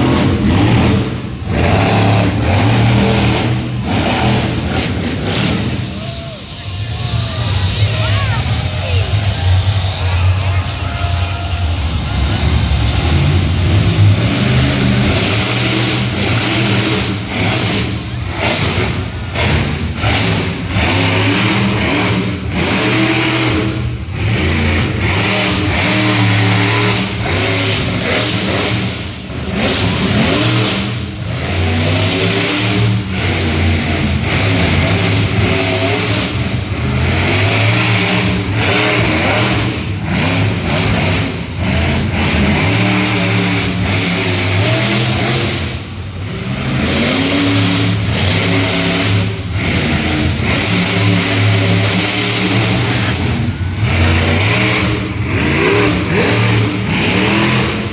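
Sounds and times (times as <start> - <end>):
truck engine revving: 0.0 - 57.9.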